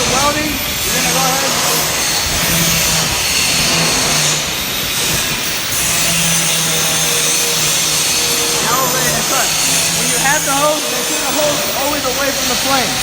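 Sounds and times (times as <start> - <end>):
welding hiss: 0.0 - 13.0.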